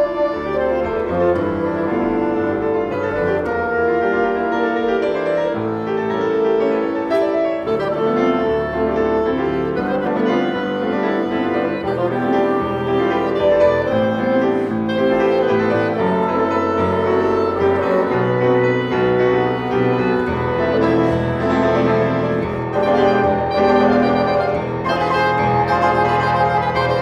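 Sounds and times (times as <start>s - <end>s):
bassoon: 0.0s - 27.0s
clarinet: 0.0s - 27.0s
grand piano: 0.0s - 27.0s.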